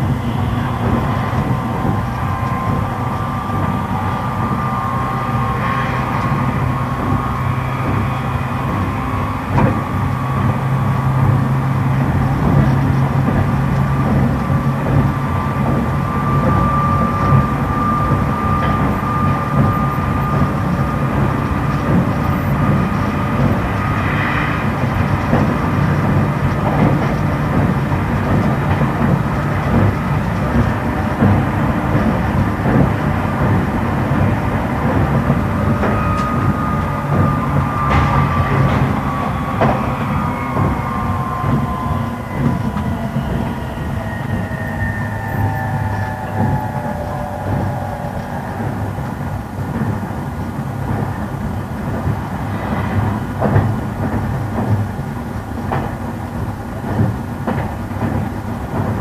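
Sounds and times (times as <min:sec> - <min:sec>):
electric train motor whine: 0:00.0 - 0:59.0
wheels rumbling on rail: 0:00.0 - 0:59.0.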